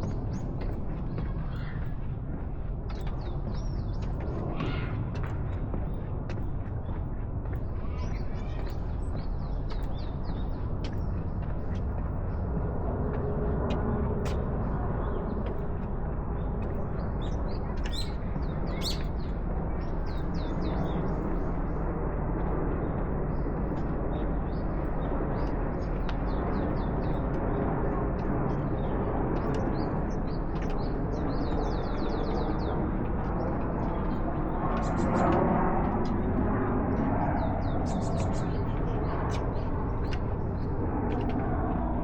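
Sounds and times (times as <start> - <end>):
small birds chirping: 0.0 - 2.2, 2.8 - 12.4, 14.2 - 21.8, 22.6 - 41.9.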